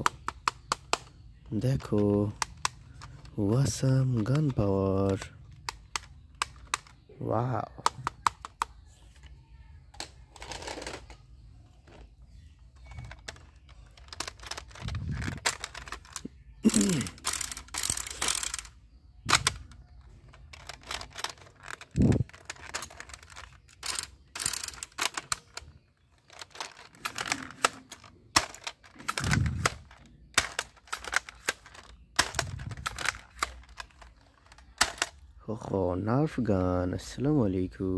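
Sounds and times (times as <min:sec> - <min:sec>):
plastic toy guns clicking: 0:00.0 - 0:09.3, 0:09.9 - 0:11.2, 0:12.8 - 0:35.3.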